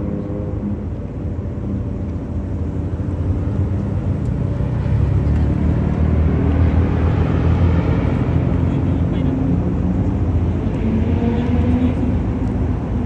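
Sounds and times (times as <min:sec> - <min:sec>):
car engine rumbling: 0:02.1 - 0:13.0.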